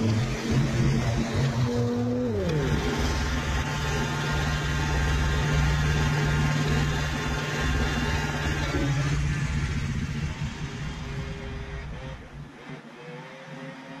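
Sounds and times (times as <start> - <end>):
mower engine running: 0.0 - 12.6.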